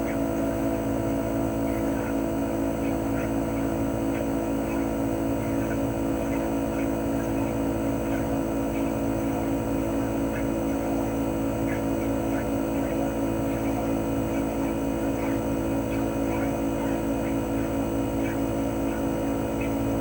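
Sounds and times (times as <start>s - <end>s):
compressor hum: 0.0s - 20.0s.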